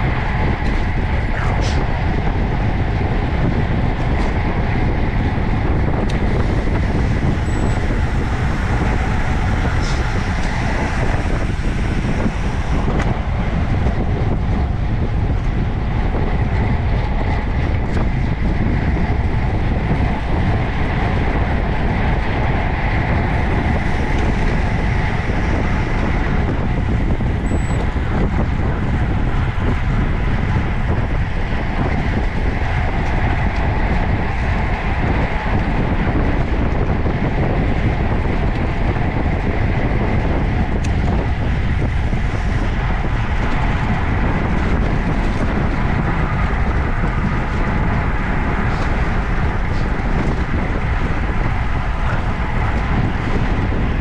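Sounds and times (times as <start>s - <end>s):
bicycle tyre road noise: 0.0s - 54.0s
wind rushing over microphone: 0.0s - 54.0s.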